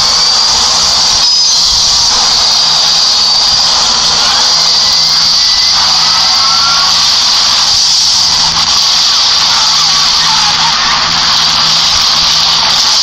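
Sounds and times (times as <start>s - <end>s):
volcanic eruption and fire roar: 0.0s - 13.0s.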